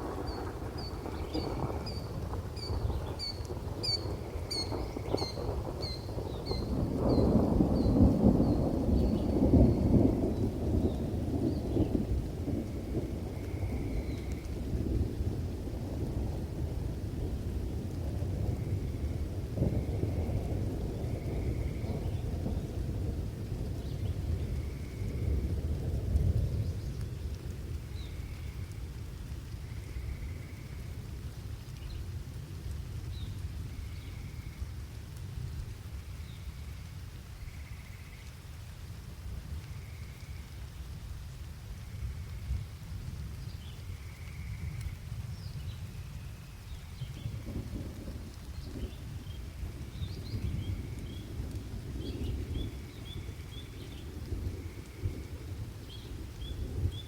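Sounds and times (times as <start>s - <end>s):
rolling thunder rumble: 0.0s - 31.2s, 41.8s - 57.0s
rain: 0.0s - 57.0s.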